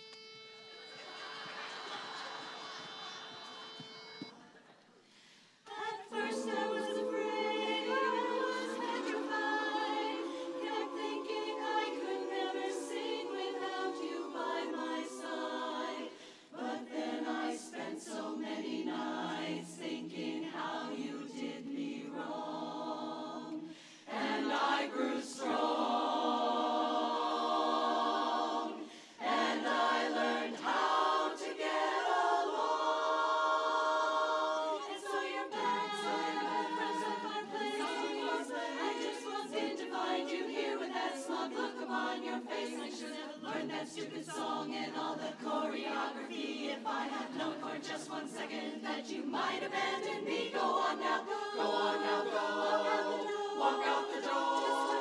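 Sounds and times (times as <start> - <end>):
women's chorus singing a cappella: 5.2 - 55.0.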